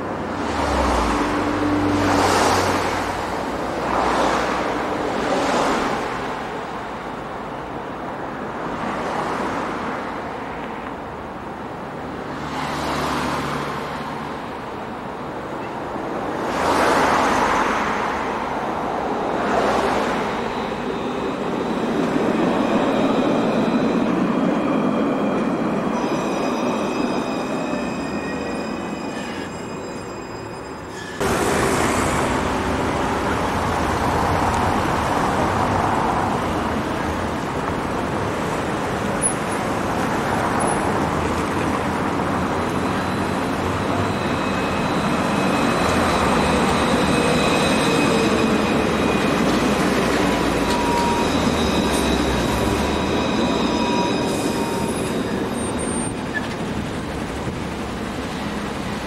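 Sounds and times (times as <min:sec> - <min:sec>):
road traffic: 0:00.0 - 0:59.0
tram running on street track: 0:00.0 - 0:59.0.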